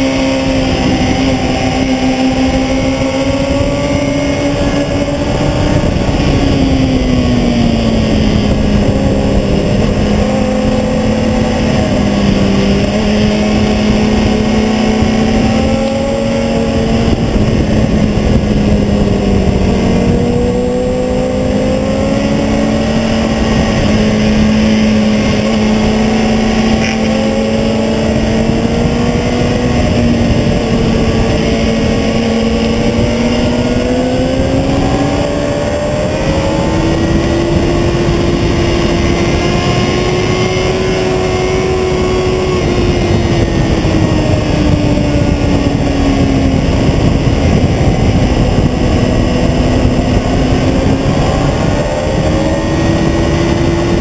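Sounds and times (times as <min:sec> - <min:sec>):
motorcycle engine at high revs: 0:00.0 - 0:54.0
wind noise on microphone: 0:00.0 - 0:54.0.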